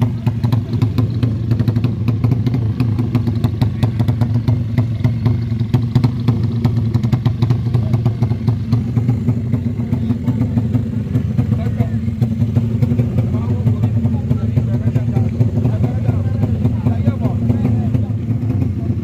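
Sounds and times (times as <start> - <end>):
racing motorcycle engine running: 0.0 - 19.0.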